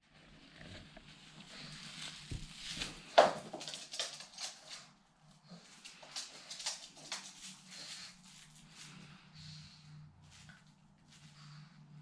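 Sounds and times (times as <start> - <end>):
puppy paws pattering on floor: 0.6 - 9.6, 10.2 - 11.7.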